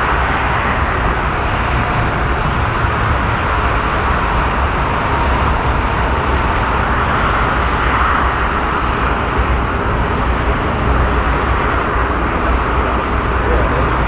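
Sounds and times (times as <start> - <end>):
jet engines running: 0.0 - 14.0
wind rumbling on microphone: 0.0 - 14.0.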